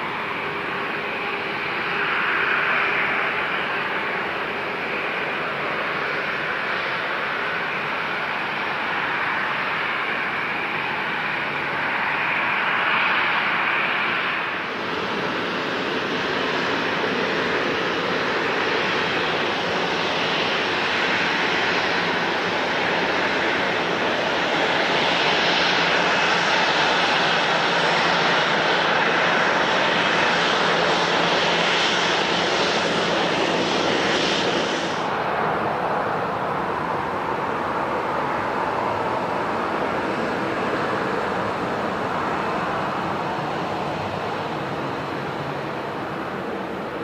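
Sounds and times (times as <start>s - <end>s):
airliner engines running: 0.0s - 47.0s.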